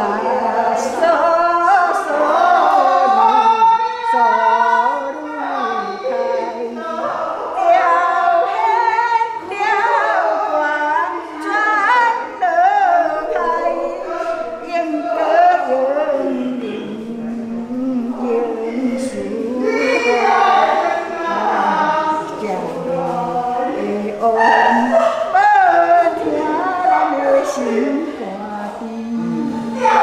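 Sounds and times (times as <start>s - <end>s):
woman singing unaccompanied: 0.0s - 30.0s.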